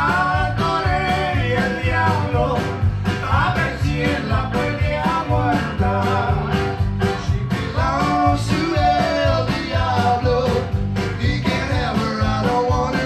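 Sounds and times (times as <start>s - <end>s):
bass and drums: 0.0s - 13.0s
live band playing: 0.0s - 13.0s.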